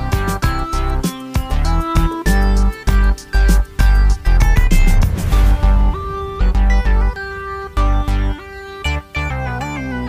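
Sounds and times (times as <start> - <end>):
background music with plucked guitar: 0.0 - 10.0.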